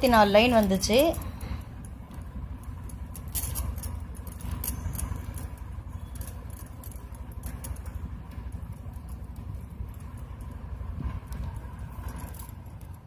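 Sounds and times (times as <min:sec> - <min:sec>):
low hum: 0:00.0 - 0:13.0
plastic wire strands clicking: 0:00.3 - 0:13.0.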